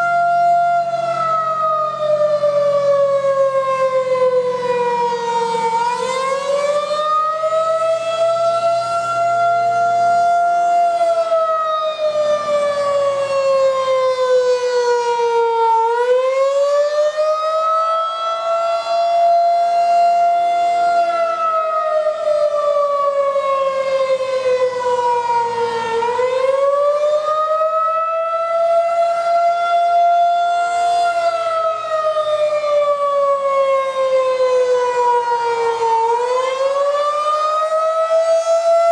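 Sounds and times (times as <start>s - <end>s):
warning siren rising and falling: 0.0s - 38.9s.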